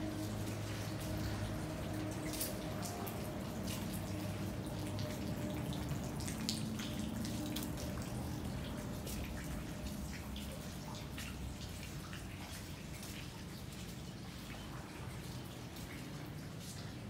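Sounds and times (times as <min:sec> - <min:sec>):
water dripping: 0:00.0 - 0:17.0.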